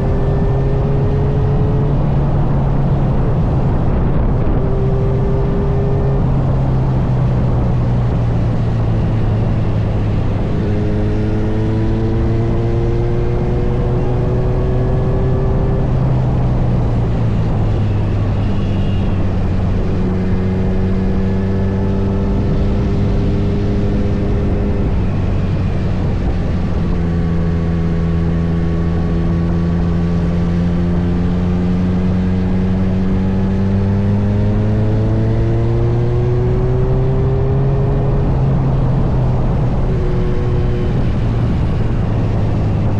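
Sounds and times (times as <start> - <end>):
motorcycle engine revving: 0.0 - 42.9
wind and road noise: 0.0 - 42.9.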